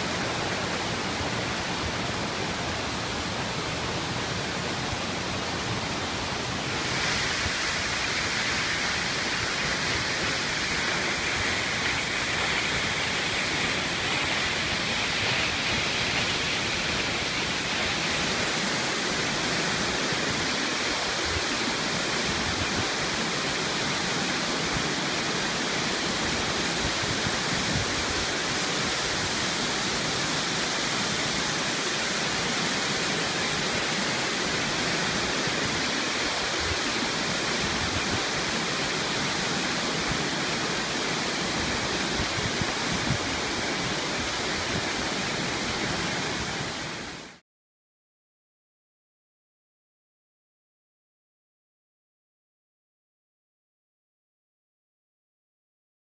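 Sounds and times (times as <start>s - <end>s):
waterfall rushing: 0.0s - 47.4s.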